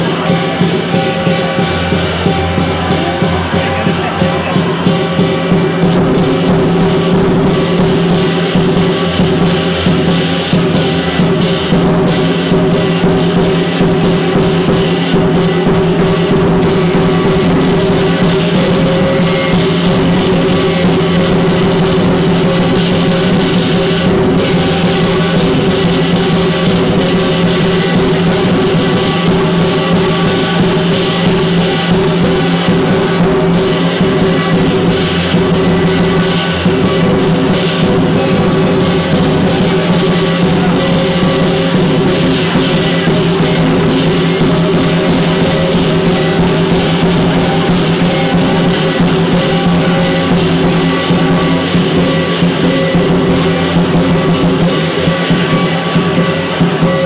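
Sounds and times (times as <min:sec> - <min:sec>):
big drum beating: 0:00.0 - 0:57.0
cymbals clashing: 0:00.0 - 0:57.0
gong: 0:00.0 - 0:57.0.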